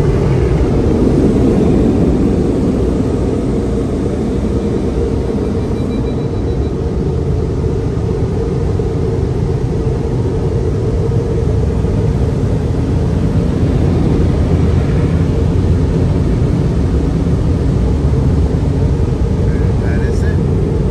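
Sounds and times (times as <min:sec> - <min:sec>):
drying blowers rushing air: 0:00.0 - 0:20.9.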